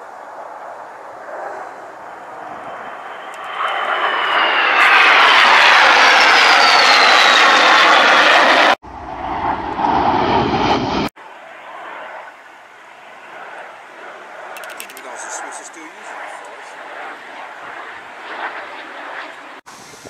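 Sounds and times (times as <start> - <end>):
jet fighters roaring past: 0.0 - 19.6
low rumble of jet noise: 0.0 - 20.0.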